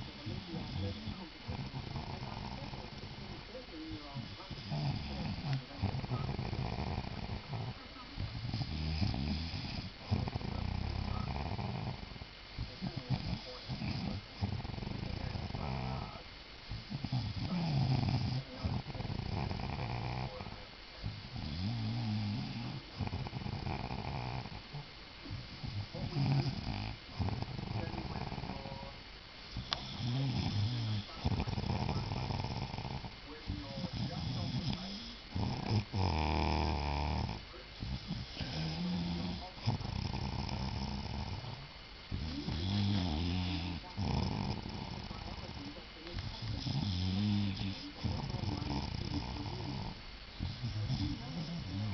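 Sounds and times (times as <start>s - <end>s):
person snoring loudly: 0.0s - 3.2s, 4.2s - 7.7s, 8.3s - 12.1s, 13.1s - 16.1s, 16.9s - 20.4s, 21.4s - 24.6s, 25.6s - 28.8s, 29.6s - 33.1s, 33.8s - 45.6s, 46.3s - 51.9s.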